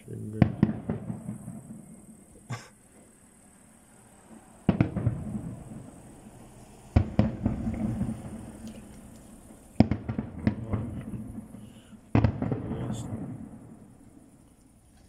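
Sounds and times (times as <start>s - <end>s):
firework cracks: 0.0s - 15.0s
firework shells bursting: 0.0s - 15.0s.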